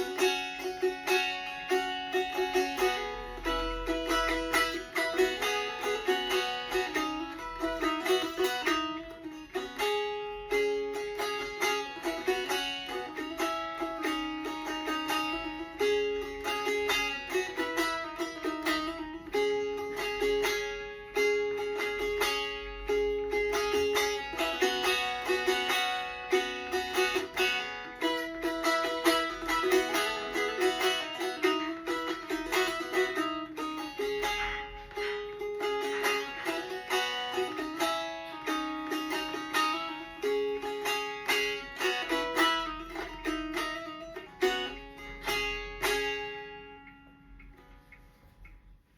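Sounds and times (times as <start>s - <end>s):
plucked string instrument: 0.0s - 48.9s.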